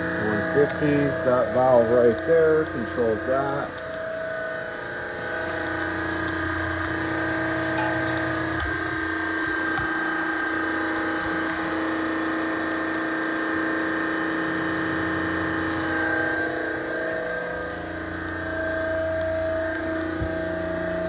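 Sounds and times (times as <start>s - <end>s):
refrigeration compressor humming: 0.0s - 21.0s.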